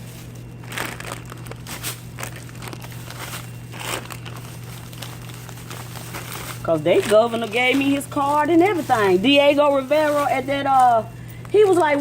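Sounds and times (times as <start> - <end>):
crinkling and rustling: 0.0 - 12.0
steady low hum: 0.0 - 12.0.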